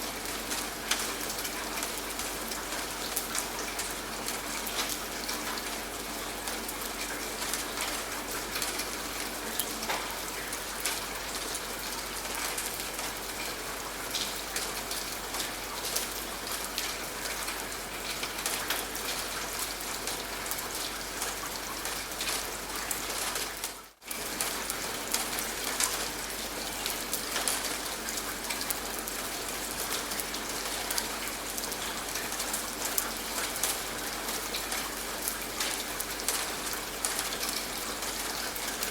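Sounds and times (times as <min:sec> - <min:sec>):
raindrops pattering: 0:00.0 - 0:38.9.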